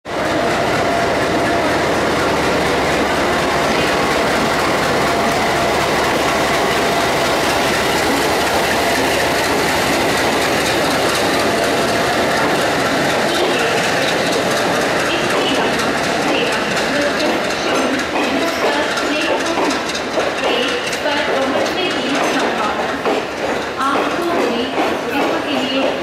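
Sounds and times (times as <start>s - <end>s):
diesel locomotive engine: 0.0s - 26.0s
train wheels on rails: 0.0s - 26.0s.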